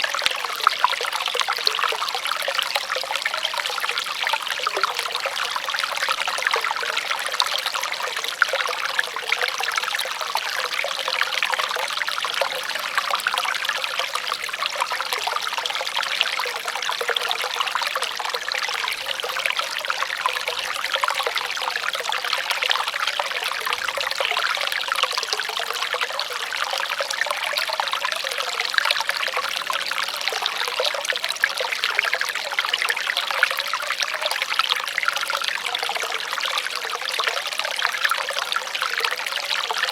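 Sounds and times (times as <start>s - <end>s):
shallow water trickling: 0.0s - 39.9s.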